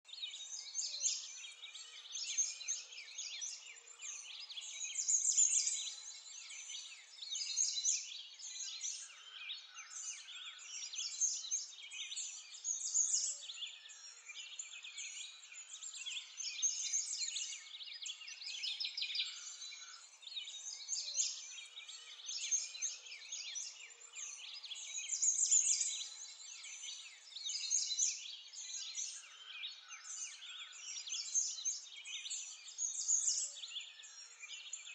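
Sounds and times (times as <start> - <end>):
songbirds chirping and singing: 0.0 - 34.9.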